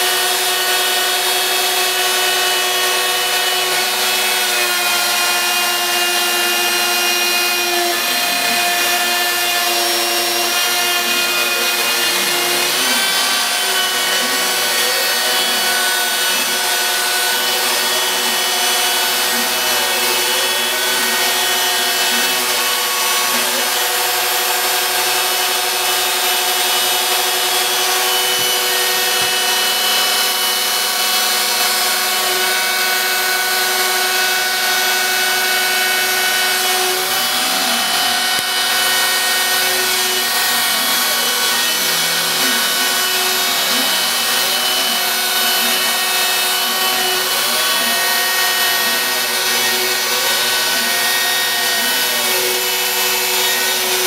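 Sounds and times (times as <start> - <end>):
bit cutting wood: 0.0 - 54.0
router spindle high whine: 0.0 - 54.0.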